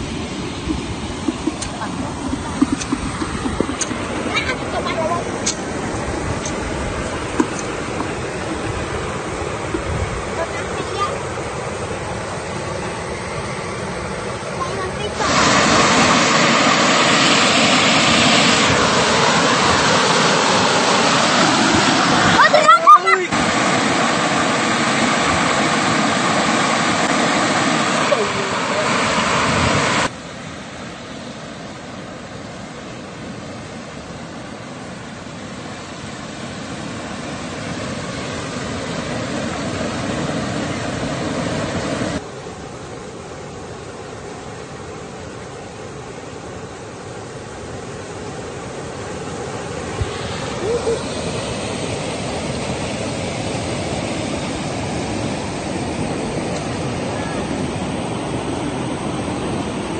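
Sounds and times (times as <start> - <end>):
river rushing through rapids: 0.0 - 59.9.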